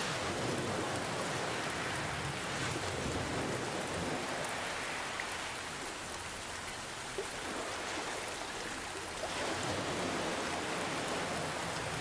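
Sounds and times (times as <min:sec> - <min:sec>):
ocean waves: 0:00.0 - 0:12.0.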